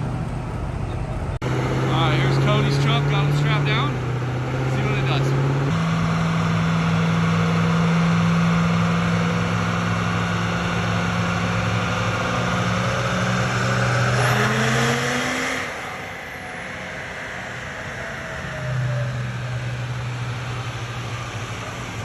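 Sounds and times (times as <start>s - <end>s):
diesel truck engine under load: 0.0s - 22.0s
rising whine: 0.0s - 22.0s.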